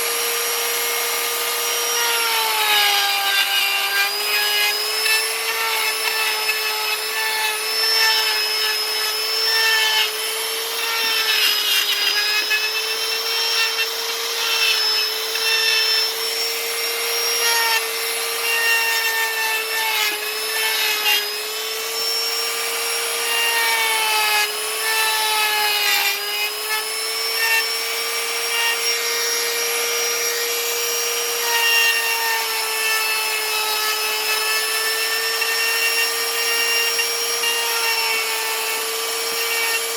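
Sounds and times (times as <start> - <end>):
power carving tool grinding wood: 0.0 - 39.9.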